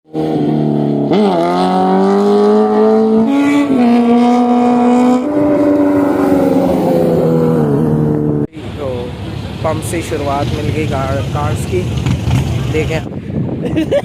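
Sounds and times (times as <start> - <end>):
high-revving engine: 0.1 - 13.0.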